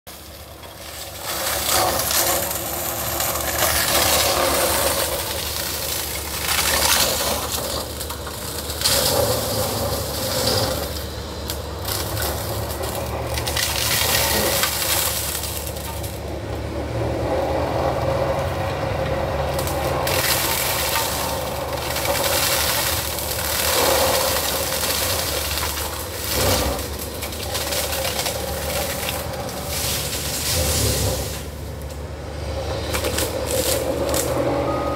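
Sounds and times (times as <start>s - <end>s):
excavator engine drone: 0.1s - 34.9s
flail mower shredding brush: 0.1s - 34.9s.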